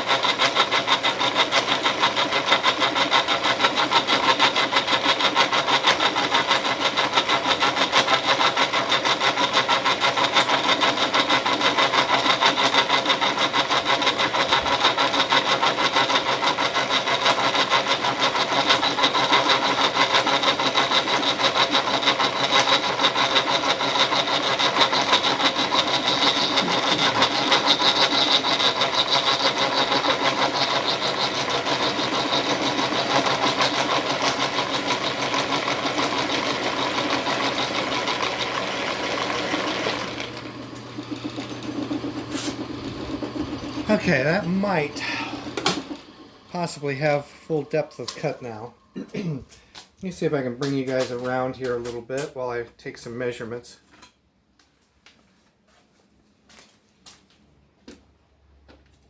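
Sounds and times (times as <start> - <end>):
milling cutter cutting metal: 0.0 - 49.4.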